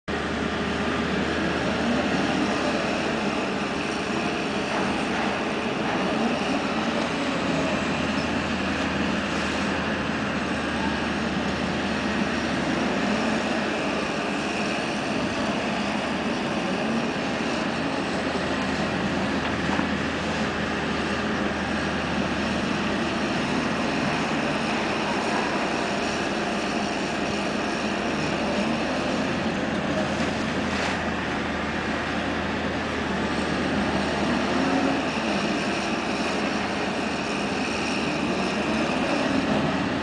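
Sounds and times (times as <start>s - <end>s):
diesel engine running: 0.1s - 40.0s.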